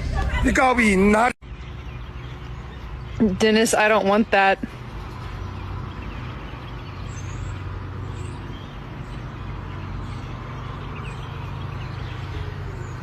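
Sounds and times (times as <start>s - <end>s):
low mechanical engine hum: 0.0s - 13.0s.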